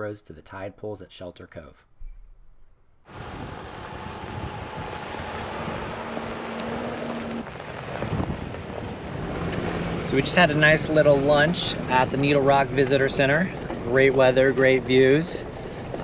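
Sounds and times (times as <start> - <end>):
vehicle driving on gravel road: 3.1 - 16.0
wind buffeting microphone: 3.1 - 16.0.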